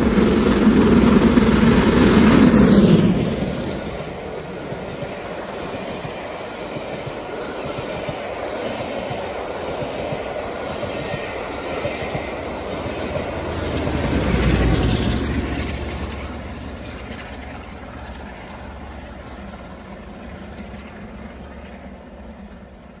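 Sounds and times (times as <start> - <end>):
train coaches rumbling on rails: 0.0 - 23.0.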